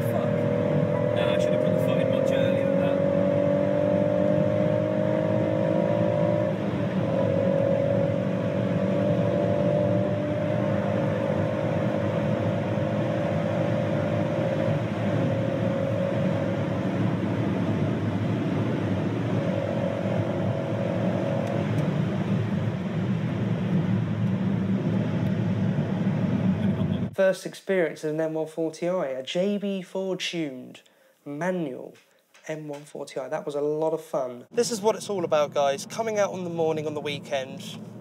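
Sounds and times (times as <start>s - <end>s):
car engine accelerating: 0.0s - 27.2s, 34.5s - 38.0s.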